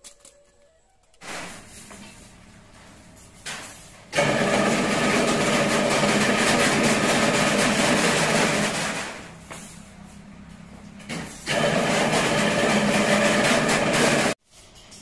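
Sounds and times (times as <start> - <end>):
machine hum: 1.0 - 14.4.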